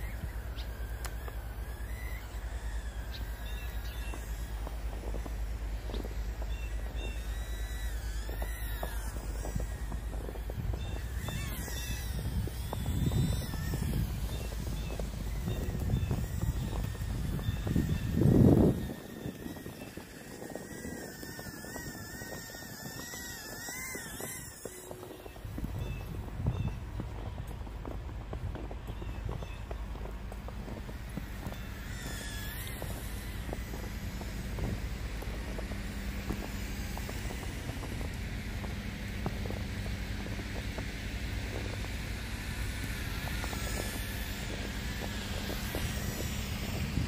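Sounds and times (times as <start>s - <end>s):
tiny drone motors whining: 0.0s - 47.0s.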